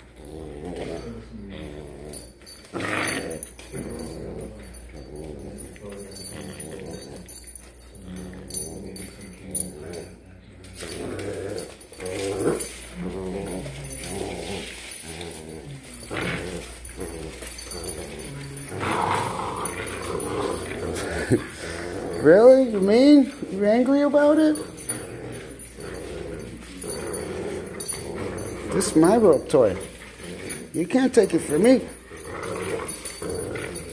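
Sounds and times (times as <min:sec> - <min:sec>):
puppies growling in play: 0:00.0 - 0:33.9.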